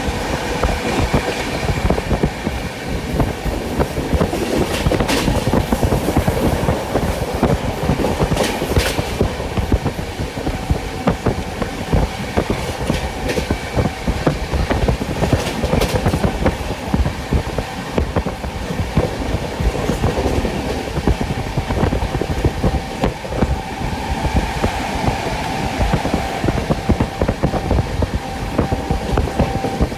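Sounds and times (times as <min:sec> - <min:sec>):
train wheels clattering over track: 0:00.0 - 0:29.9.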